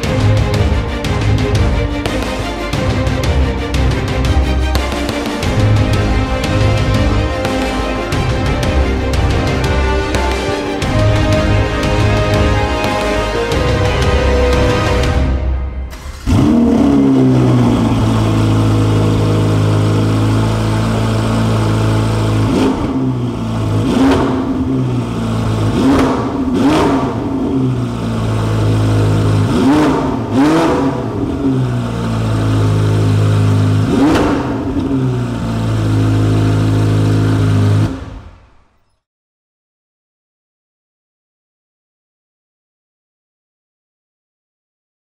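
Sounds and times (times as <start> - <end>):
engine revving: 0.0 - 38.6
car engine starting and idling: 0.0 - 38.8.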